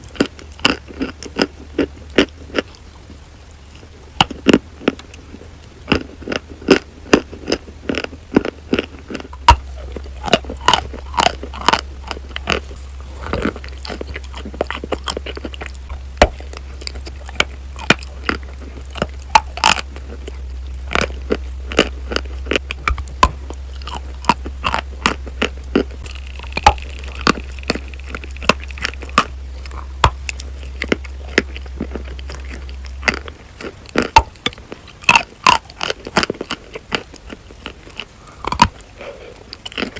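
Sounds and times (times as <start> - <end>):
chalk crunching while chewed: 0.0 - 39.9
steady low hum: 0.0 - 39.9.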